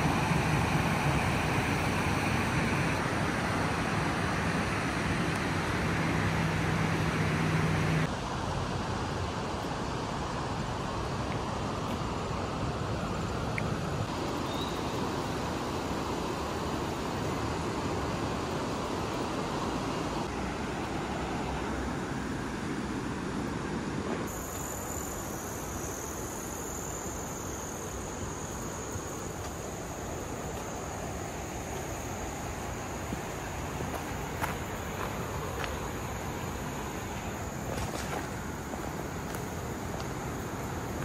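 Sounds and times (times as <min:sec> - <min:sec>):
high insect trill: 0:00.0 - 0:08.1, 0:12.1 - 0:22.3, 0:24.3 - 0:41.0.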